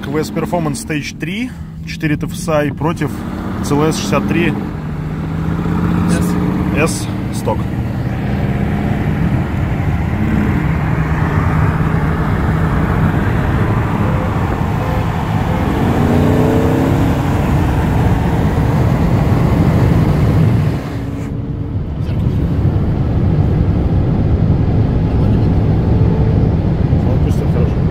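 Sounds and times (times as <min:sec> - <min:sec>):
car engine at full throttle: 0:00.0 - 0:27.9
road and wind noise: 0:00.0 - 0:27.9.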